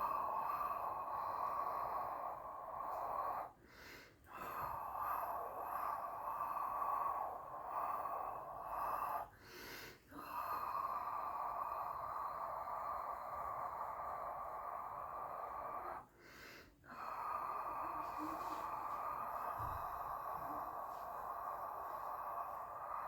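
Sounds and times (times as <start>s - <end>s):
person breathing out: 0.0s - 23.0s.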